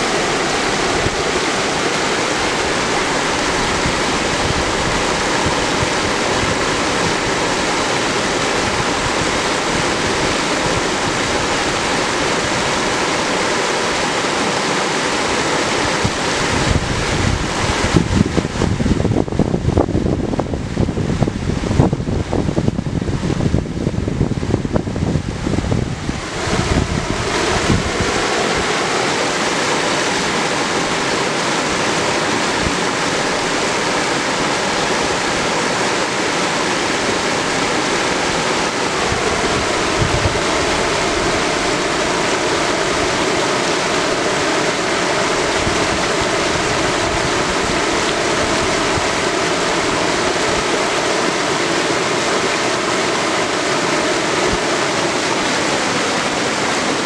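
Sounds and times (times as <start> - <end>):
wind buffeting microphone: 0.0 - 13.8, 15.4 - 57.0
river rushing over rocks: 0.0 - 57.0.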